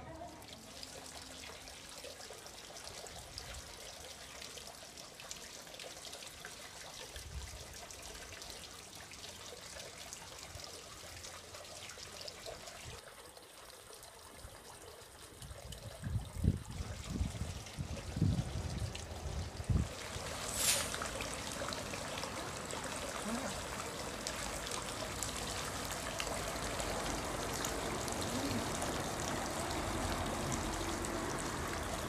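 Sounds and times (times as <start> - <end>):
water trickling and splashing: 0.0 - 32.0.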